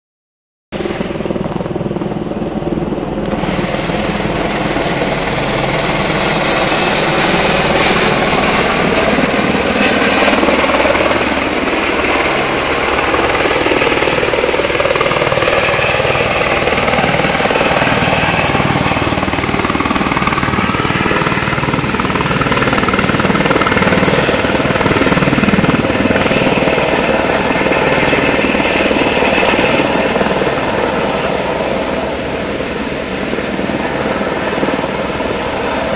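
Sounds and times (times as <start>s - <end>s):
helicopter engine running: 0.8s - 35.9s
helicopter rotor chopping: 0.8s - 35.9s.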